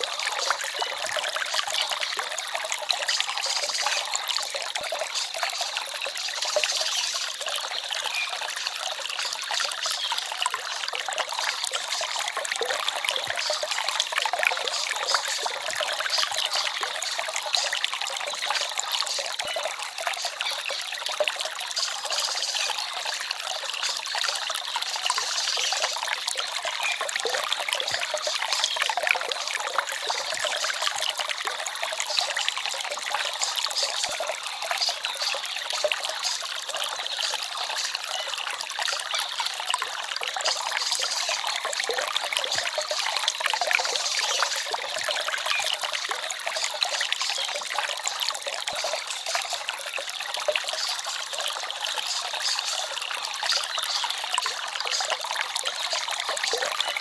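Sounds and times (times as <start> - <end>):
forest stream trickling: 0.0 - 57.0.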